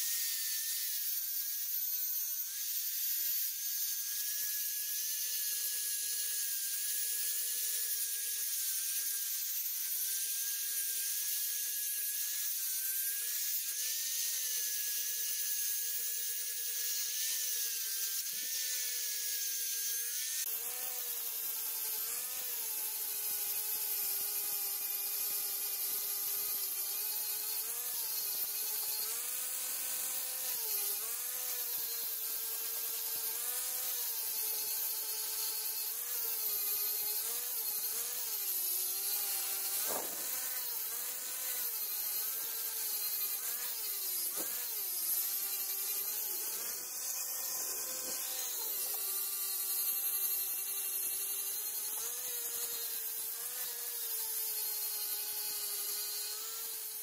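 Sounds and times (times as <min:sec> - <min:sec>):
angle grinder grinding steel: 0:00.0 - 0:57.0.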